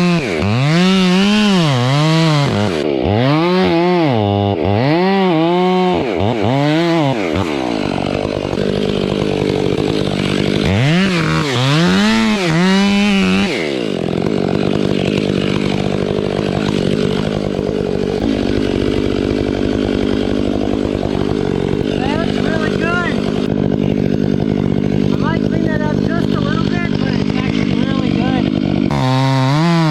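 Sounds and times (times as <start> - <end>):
chainsaw revving: 0.0 - 29.9.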